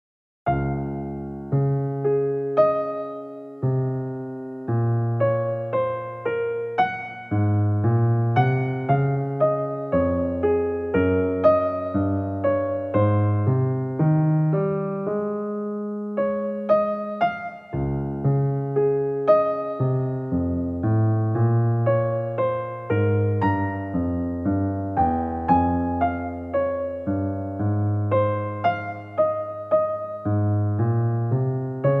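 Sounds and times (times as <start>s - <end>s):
gentle keyboard melody: 0.5s - 32.0s
slow piano piece: 0.5s - 32.0s.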